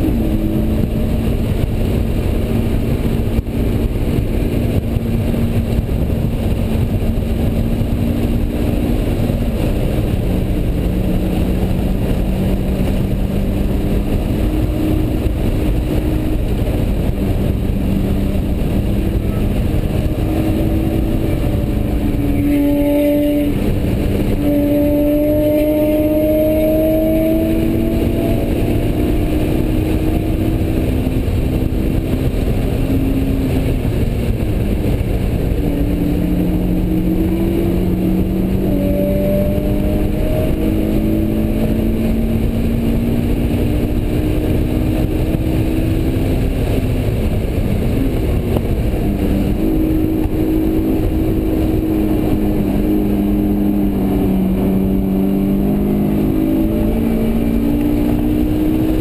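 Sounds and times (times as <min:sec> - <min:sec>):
car engine: 0:00.0 - 0:59.0
wind and road noise: 0:00.0 - 0:59.0.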